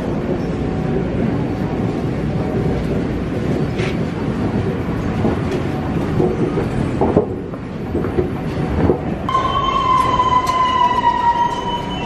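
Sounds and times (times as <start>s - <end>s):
subway train wheels on track: 0.0s - 12.0s.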